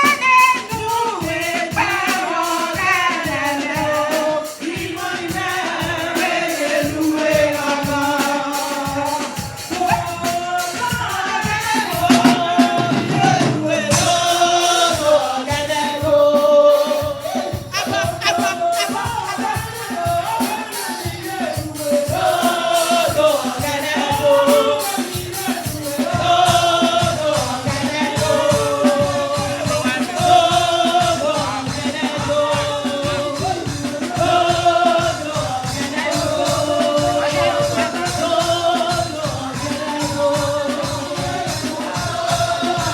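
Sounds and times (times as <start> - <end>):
hand percussion: 0.0 - 42.9
voices singing together: 0.0 - 42.9
instrumental backing: 4.5 - 42.9.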